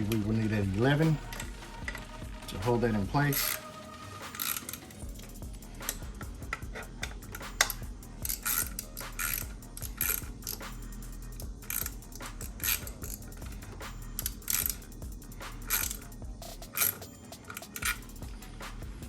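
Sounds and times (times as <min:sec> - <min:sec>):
hand ratchet clicking: 0:00.0 - 0:19.0.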